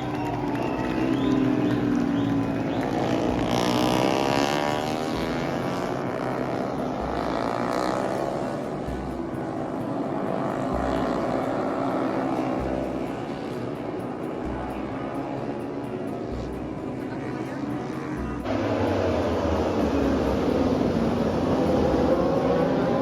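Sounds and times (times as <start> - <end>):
racing motorcycles passing: 0.0 - 23.0.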